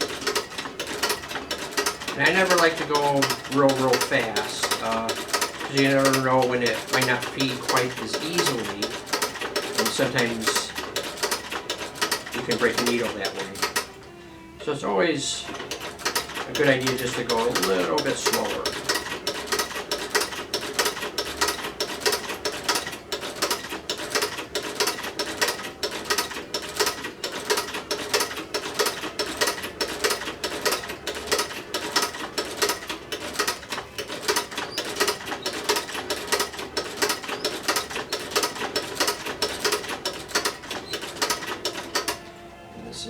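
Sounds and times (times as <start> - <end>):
sewing machine stitching: 0.0 - 14.0, 14.6 - 42.3.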